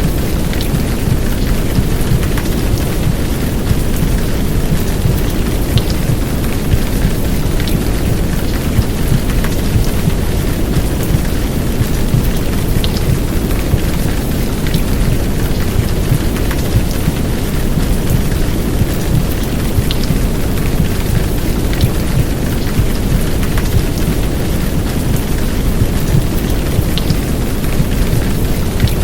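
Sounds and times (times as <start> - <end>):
heavy rain downpour: 0.0 - 29.0
white noise: 0.0 - 29.0.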